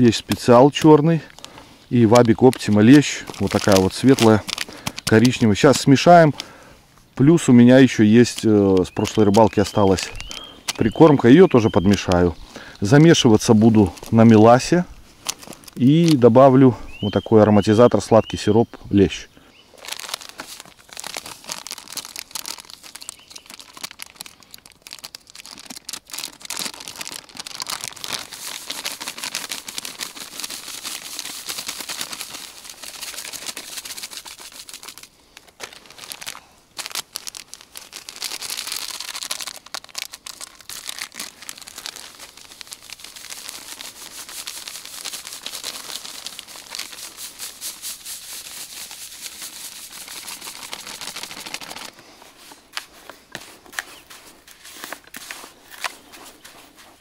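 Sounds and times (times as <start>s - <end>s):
plastic bags crinkling: 0.0s - 17.8s, 19.7s - 57.0s
dry groundbait rustling: 0.0s - 57.0s.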